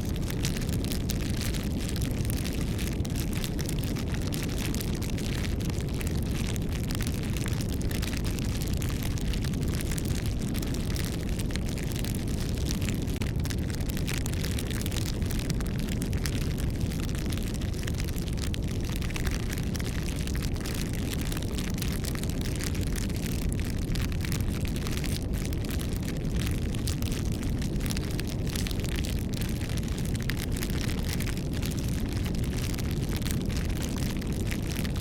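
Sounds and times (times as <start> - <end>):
fire crackles and pops: 0.0 - 35.0
low roar of flames: 0.0 - 35.0.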